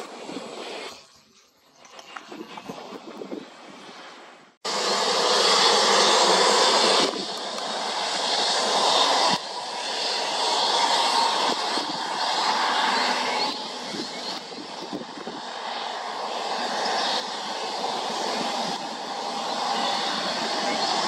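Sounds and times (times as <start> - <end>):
jet engines running loud: 0.0 - 1.1, 1.8 - 21.0.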